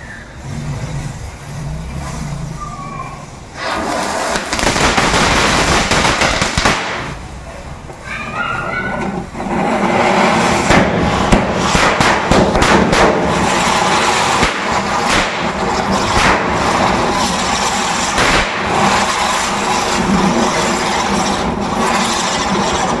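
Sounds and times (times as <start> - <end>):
firecrackers hissing and crackling: 0.0 - 23.0.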